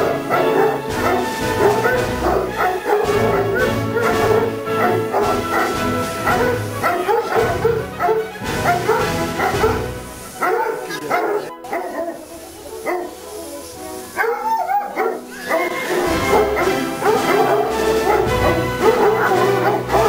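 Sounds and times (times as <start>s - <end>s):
hounds barking: 0.0s - 20.0s
music playing: 0.0s - 20.0s.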